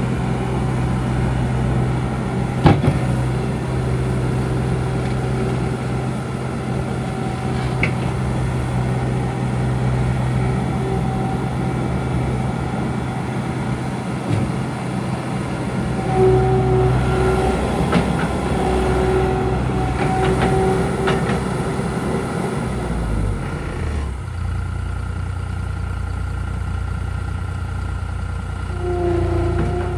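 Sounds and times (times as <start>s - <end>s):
engine whine: 0.0s - 25.1s, 26.0s - 29.9s
diesel engine running: 0.0s - 29.9s.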